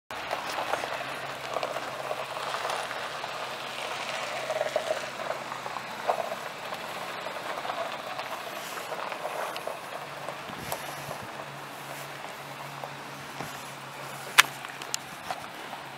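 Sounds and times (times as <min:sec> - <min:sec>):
vehicle low hum: 0:00.1 - 0:15.9
rough uneven hiss: 0:00.3 - 0:15.9.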